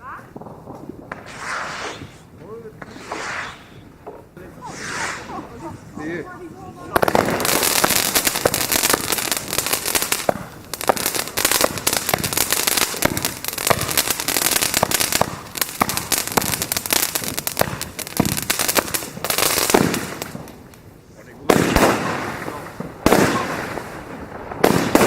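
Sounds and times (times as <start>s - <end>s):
loud fireworks bangs: 0.0s - 20.8s, 21.4s - 25.0s
fireworks crackling and popping: 0.0s - 25.0s.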